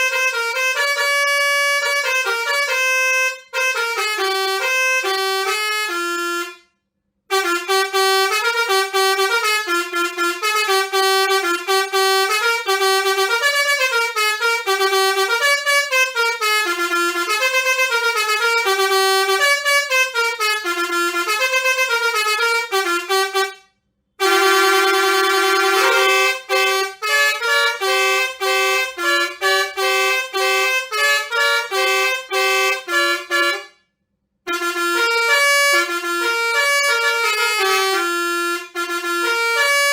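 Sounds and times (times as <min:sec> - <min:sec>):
musical air horn playing tunes: 0:00.0 - 0:06.6, 0:07.3 - 0:23.6, 0:24.2 - 0:33.8, 0:34.5 - 0:39.9.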